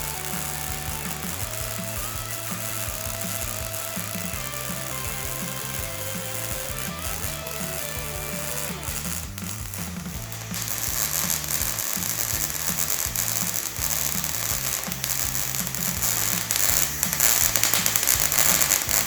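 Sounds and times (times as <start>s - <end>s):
background music with bass line: 0.0s - 19.0s
welder arc crackling: 0.0s - 19.0s.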